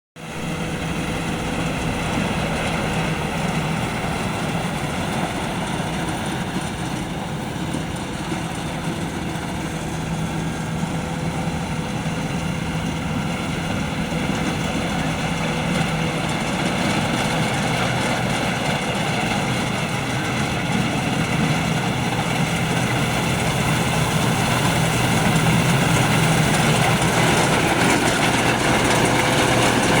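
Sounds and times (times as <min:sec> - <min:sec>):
combine harvester running: 0:00.2 - 0:30.0.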